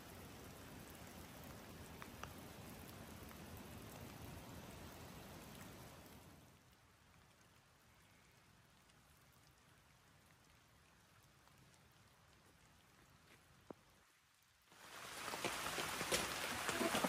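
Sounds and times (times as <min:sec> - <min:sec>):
water drips: 0:00.0 - 0:16.8
faint steady rain: 0:00.0 - 0:17.0.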